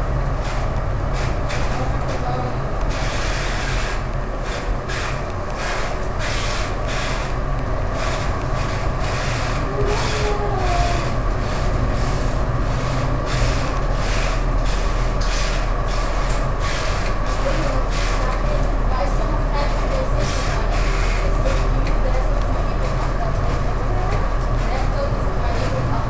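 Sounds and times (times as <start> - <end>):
pulsing rail noise: 0.0 - 26.0
tram motors and wheels rumbling: 0.0 - 26.0.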